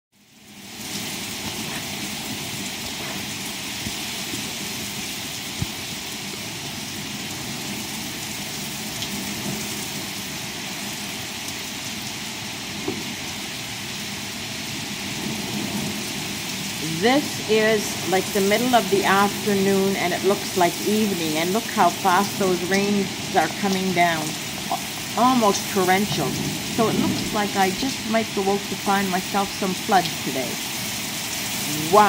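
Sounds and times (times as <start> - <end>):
torrential rain pouring: 0.2 - 32.0.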